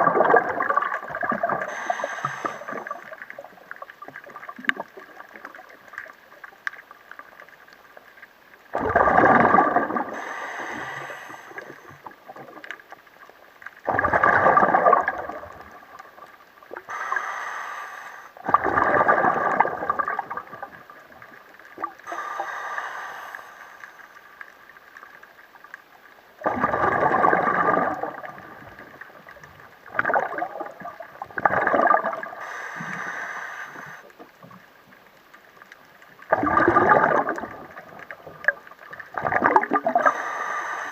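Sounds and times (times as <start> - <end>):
faint steady hum: 0.0 - 40.9
water gurgling: 0.0 - 40.9.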